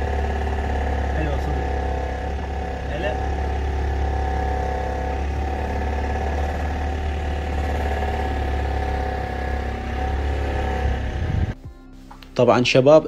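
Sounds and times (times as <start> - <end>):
engine idling: 0.0 - 11.6.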